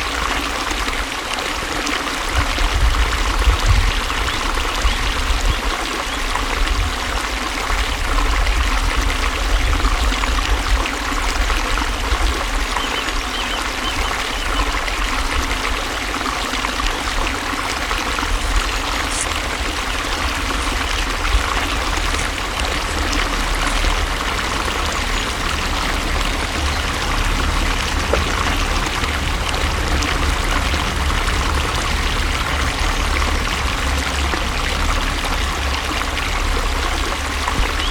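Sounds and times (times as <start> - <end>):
flowing water: 0.0 - 37.9.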